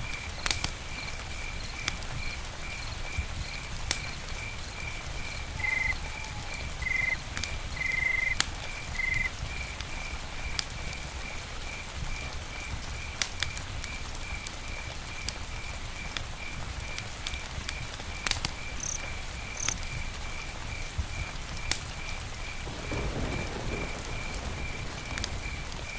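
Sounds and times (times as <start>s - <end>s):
campfire crackling: 0.0s - 25.9s
cricket chirping: 0.0s - 25.9s.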